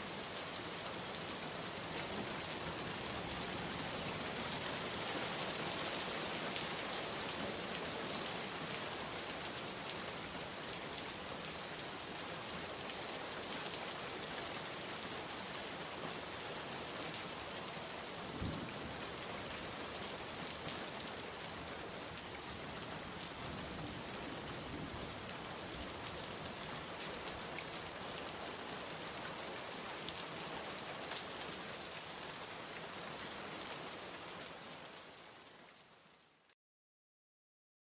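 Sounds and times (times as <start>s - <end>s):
steady rain falling: 0.0s - 36.6s.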